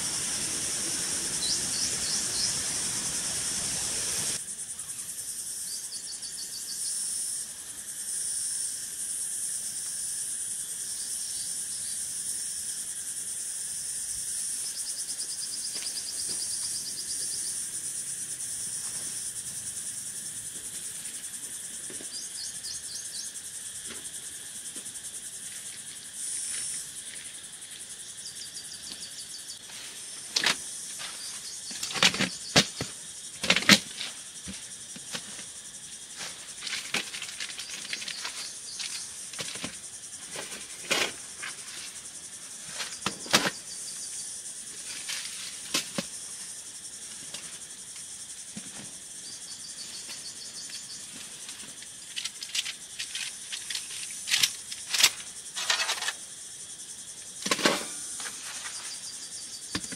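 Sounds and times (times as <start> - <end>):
insects droning high-pitched: 0.0 - 59.9
rapid insect chirps: 0.0 - 59.9.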